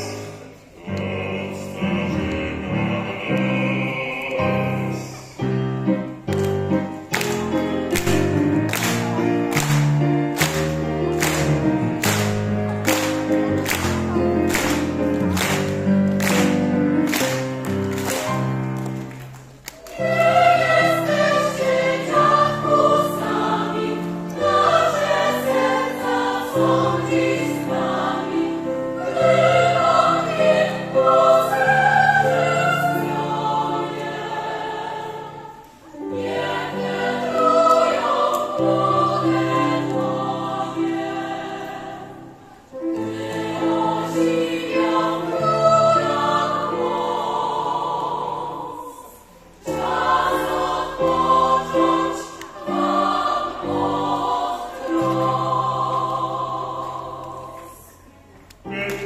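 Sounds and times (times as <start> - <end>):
choir singing: 0.0 - 59.0
instrumental accompaniment: 0.5 - 48.7.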